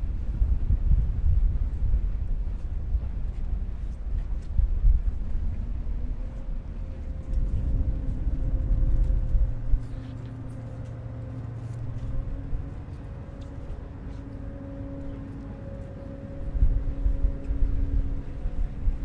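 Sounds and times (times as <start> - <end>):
ferry engine humming: 0.0 - 19.0
wind buffeting microphone: 0.0 - 19.0.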